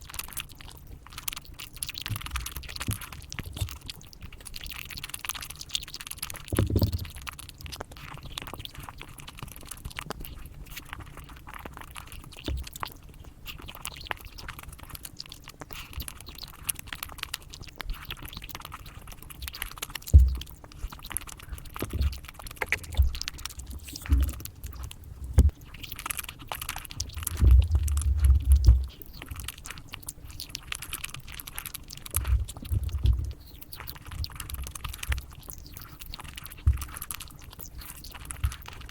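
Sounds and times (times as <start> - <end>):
chewing and crunching chocolate: 0.0 - 38.9.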